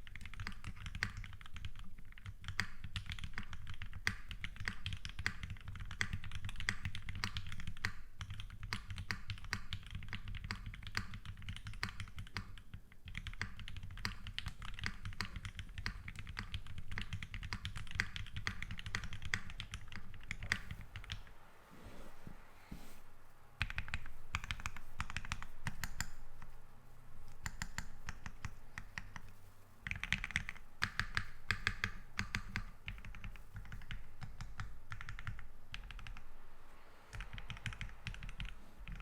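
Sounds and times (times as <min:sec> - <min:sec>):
fast mechanical keyboard typing: 0:00.0 - 0:21.2, 0:23.6 - 0:26.2, 0:27.3 - 0:36.2, 0:37.1 - 0:39.0.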